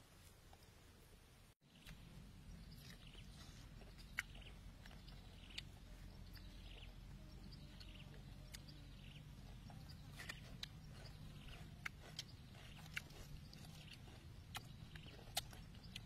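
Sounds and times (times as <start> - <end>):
steady low hum: 0.0 - 16.0
faint bird chirps: 1.6 - 16.0
faint chewing and mouth clicks: 1.7 - 16.0.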